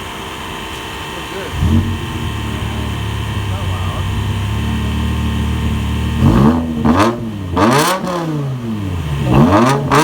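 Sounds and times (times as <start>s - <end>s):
engine idling and revving: 0.0s - 10.0s.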